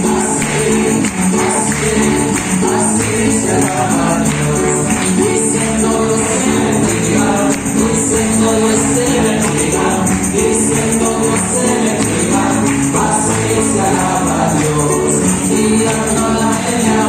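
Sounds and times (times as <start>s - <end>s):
group singing praise song: 0.0s - 17.0s
tambourine shaking: 0.0s - 17.0s.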